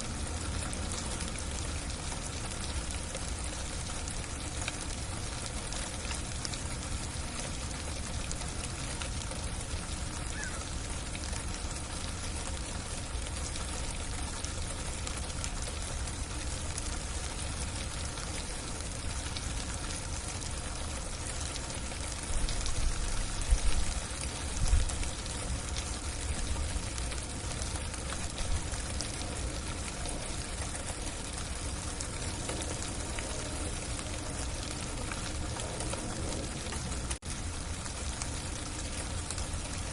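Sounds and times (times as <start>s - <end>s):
icy rain on a roof: 0.0s - 39.9s.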